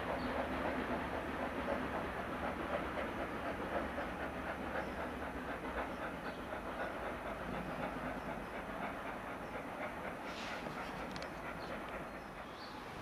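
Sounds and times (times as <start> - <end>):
steam locomotive exhaust beat: 0.0 - 13.0
wheels rumbling on rails: 0.0 - 13.0.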